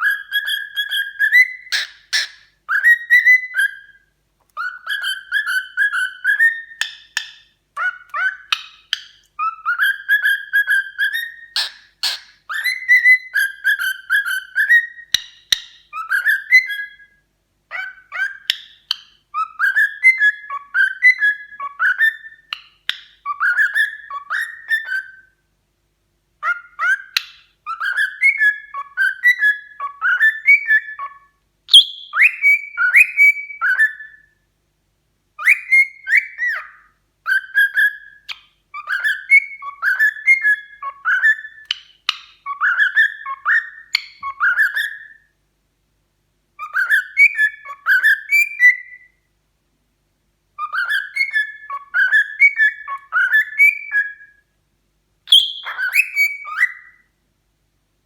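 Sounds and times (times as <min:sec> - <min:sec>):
cockatiel whistling a tune: 0:00.0 - 0:25.4, 0:26.4 - 0:34.4, 0:35.4 - 0:45.4, 0:46.6 - 0:49.3, 0:50.6 - 0:54.6, 0:55.3 - 0:57.2.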